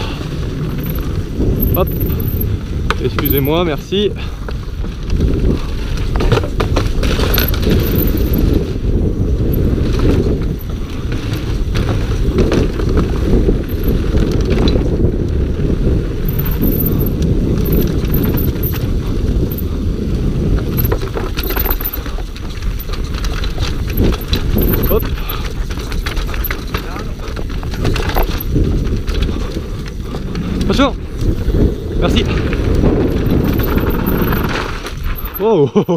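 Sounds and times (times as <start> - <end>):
bike rattling and clicking: 0.0 - 35.9
rumble of tyres and wind: 0.0 - 35.9
tyres on wooden boardwalk: 0.0 - 35.9.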